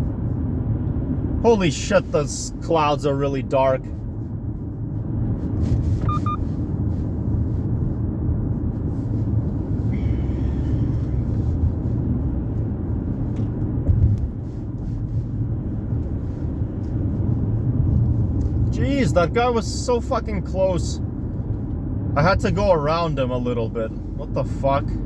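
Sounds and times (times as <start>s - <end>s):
car cabin road rumble: 0.0s - 25.0s.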